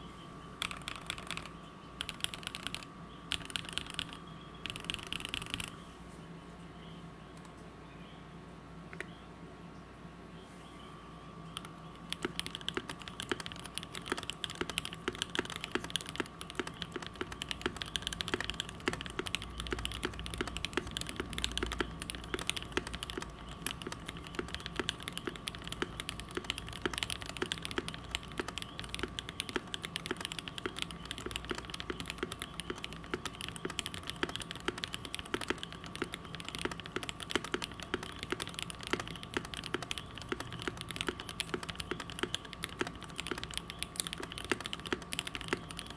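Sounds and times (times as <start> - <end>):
faint steady hum: 0.0 - 45.9
mechanical keyboard typing: 0.6 - 5.8, 11.5 - 45.9.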